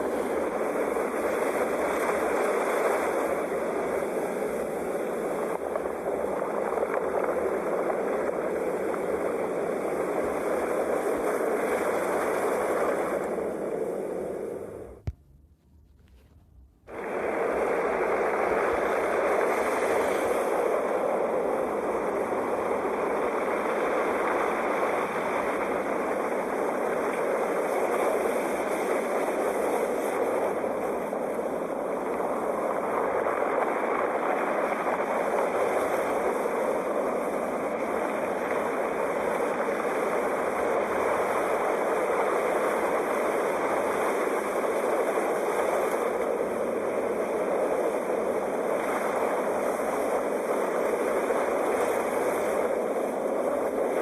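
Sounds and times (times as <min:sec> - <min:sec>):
rush of sea surf: 0:00.0 - 0:15.0, 0:16.9 - 0:54.0.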